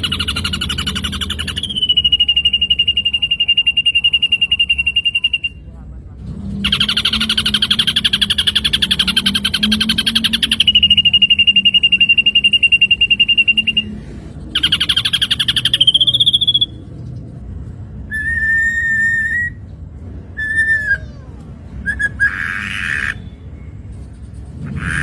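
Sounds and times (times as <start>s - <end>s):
bird singing varied phrases: 0.0s - 5.7s, 6.6s - 17.3s, 18.0s - 23.8s.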